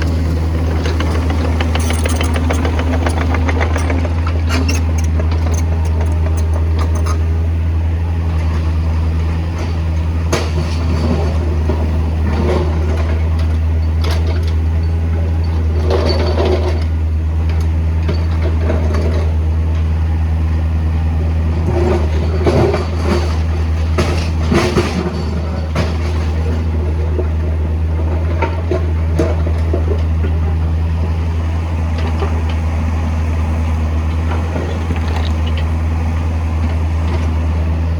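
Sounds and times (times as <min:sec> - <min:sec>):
backhoe diesel engine running: 0:00.0 - 0:37.9.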